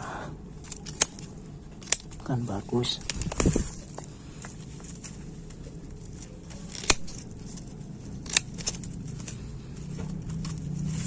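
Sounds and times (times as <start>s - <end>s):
pruning shears snipping roots: 0.6s - 11.0s.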